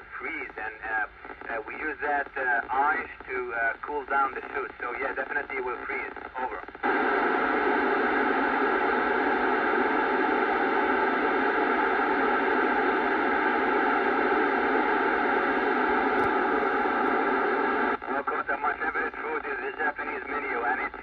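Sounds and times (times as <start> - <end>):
radio receiver static hiss: 0.0 - 21.0.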